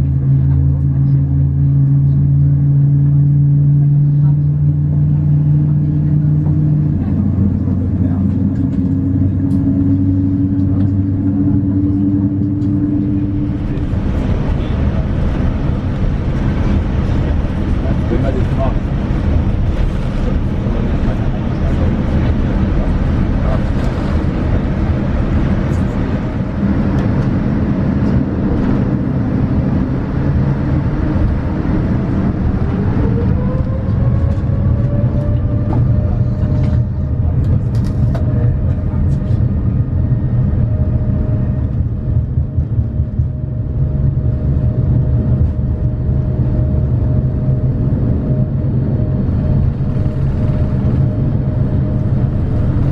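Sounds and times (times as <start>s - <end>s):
aircraft cabin rumble: 0.0s - 52.9s
jet engine whine: 0.0s - 52.9s.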